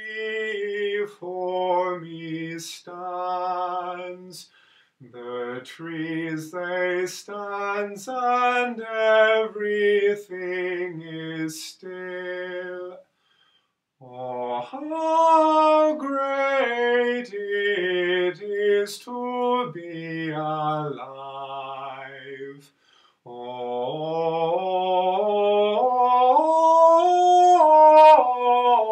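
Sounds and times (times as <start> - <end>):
man singing unaccompanied: 0.0 - 13.0, 14.0 - 28.9.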